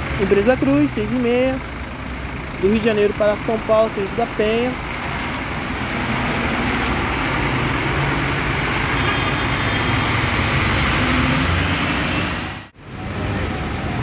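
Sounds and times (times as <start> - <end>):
bus diesel engine running: 0.0 - 14.0
steady traffic noise: 0.0 - 14.0.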